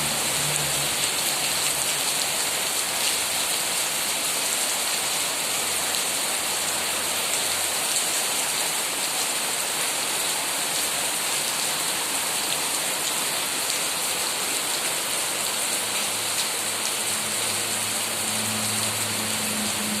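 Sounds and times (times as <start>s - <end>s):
rain falling on foliage: 0.0s - 20.0s.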